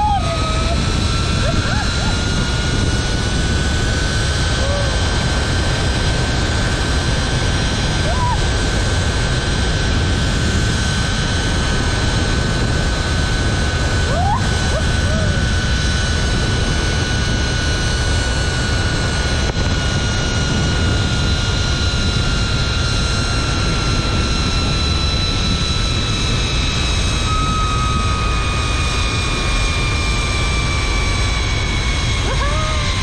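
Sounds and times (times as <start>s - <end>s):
wind rush on microphone: 0.0s - 33.0s
zipline trolley whining on cable: 0.0s - 33.0s.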